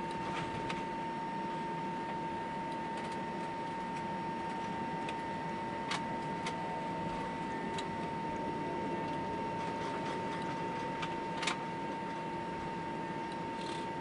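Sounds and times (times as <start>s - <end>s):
aircraft cabin noise: 0.0s - 14.0s
idling jet engines whine: 0.0s - 14.0s.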